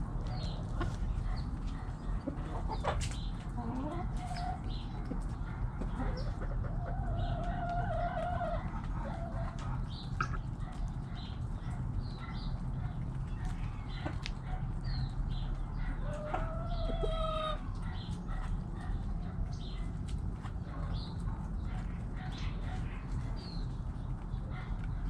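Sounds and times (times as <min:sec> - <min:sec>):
chickens clucking and calling: 0:00.0 - 0:25.0.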